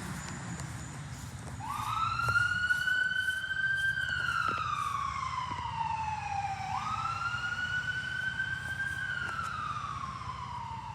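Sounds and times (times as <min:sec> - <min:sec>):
fire engine siren wailing: 0:00.0 - 0:10.9.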